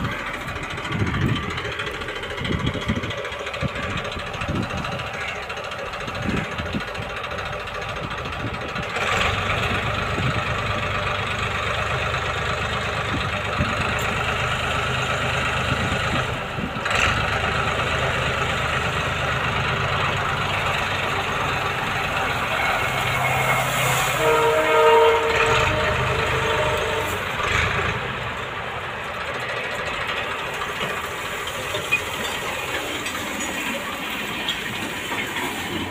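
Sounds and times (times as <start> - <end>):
tractor engine under load: 0.0 - 35.9.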